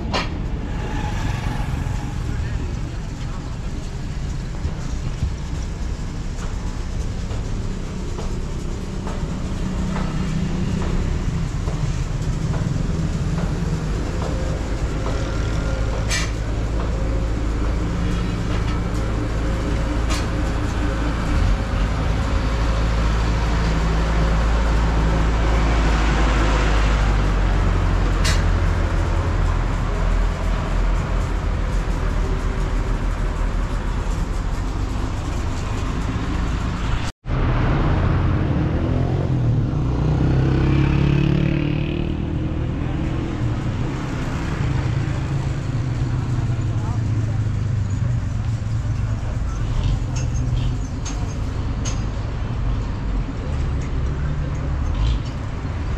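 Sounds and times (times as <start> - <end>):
road traffic noise: 0.0 - 55.9
vehicle engine running: 1.5 - 55.9.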